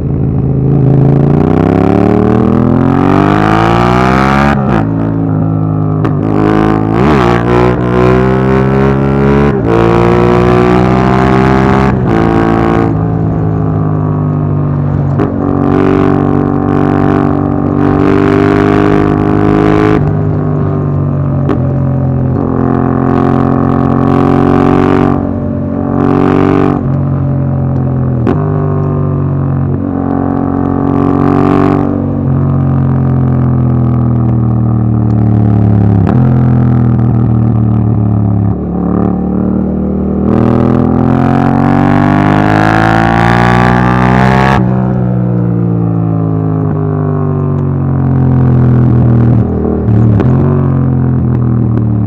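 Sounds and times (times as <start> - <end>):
motorcycle engine revving through gears: 0.0 - 52.0.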